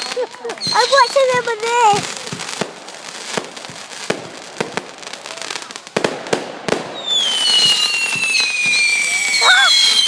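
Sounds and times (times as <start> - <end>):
firework bangs: 0.0 - 10.0
whistling firework: 0.0 - 10.0.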